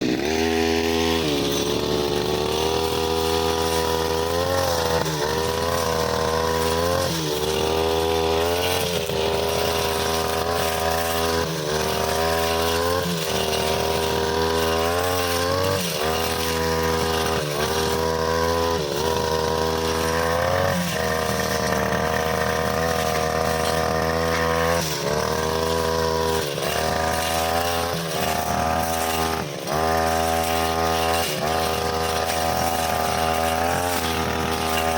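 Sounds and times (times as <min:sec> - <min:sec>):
brushcutter engine cutting grass: 0:00.0 - 0:34.9.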